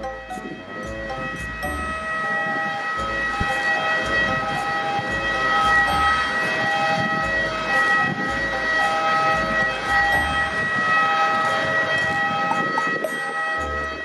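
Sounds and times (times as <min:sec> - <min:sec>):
jet turbine whine: 0:00.0 - 0:14.0
wind buffeting microphone: 0:00.0 - 0:14.0.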